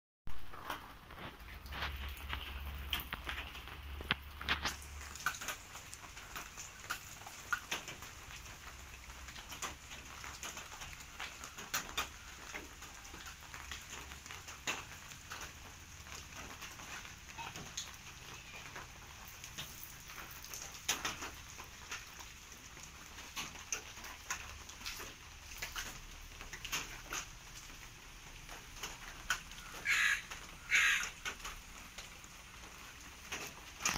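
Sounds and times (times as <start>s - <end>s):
rabbits pattering on wire mesh: 0.5s - 33.9s.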